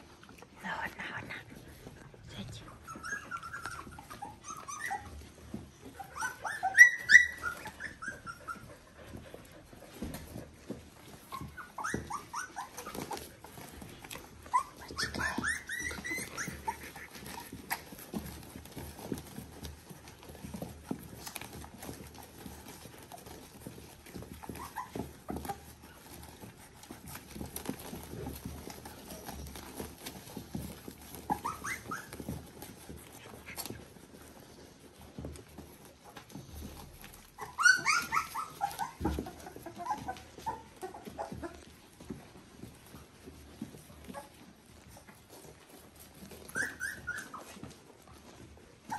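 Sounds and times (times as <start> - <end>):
puppies squeaking and whimpering: 0.0 - 48.9
rustling on bedding: 0.0 - 48.9.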